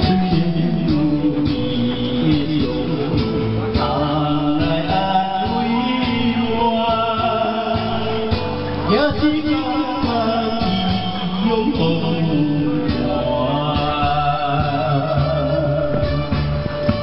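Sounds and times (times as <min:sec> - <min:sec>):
background music: 0:00.0 - 0:17.0
man singing over a beat: 0:00.0 - 0:17.0.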